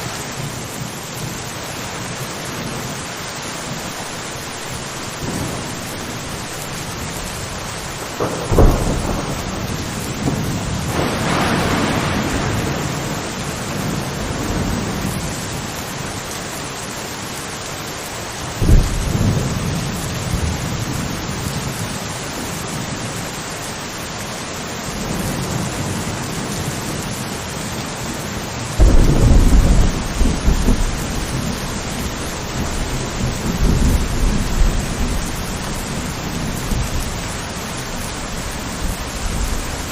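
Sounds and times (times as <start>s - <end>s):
steady rain falling: 0.0s - 39.9s
thunder rumbling: 3.7s - 16.4s, 18.5s - 23.4s, 24.9s - 39.9s.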